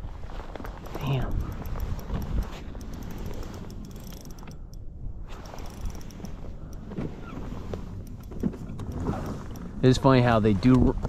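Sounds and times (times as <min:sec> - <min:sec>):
fishing reel clicking: 0:00.8 - 0:06.9, 0:07.7 - 0:10.5.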